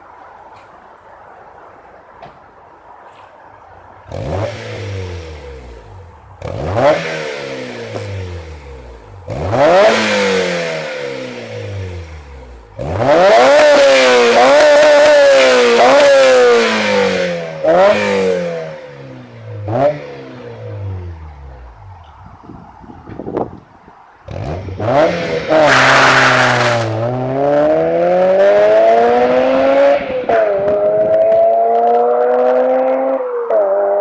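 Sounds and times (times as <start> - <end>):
car engine revving: 4.0 - 22.0, 24.3 - 34.0.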